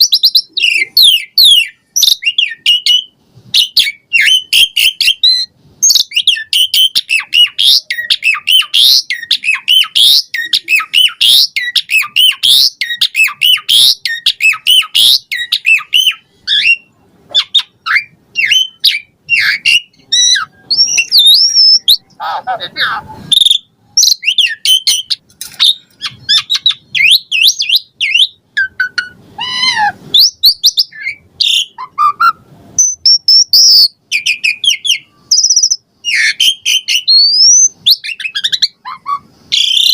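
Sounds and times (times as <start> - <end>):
lower harsh bird phrases: 0.0 - 39.9.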